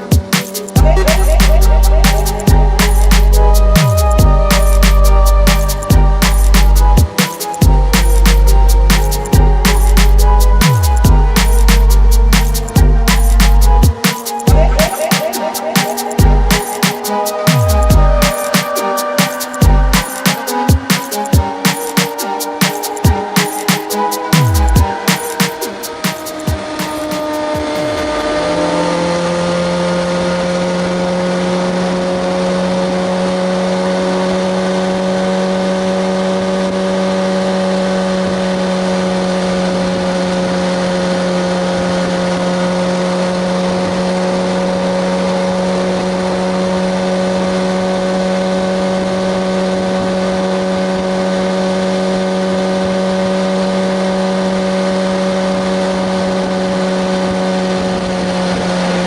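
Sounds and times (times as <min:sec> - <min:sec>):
constant rushing noise: 0:00.0 - 0:59.0
motorcycle engine running: 0:00.0 - 0:59.0.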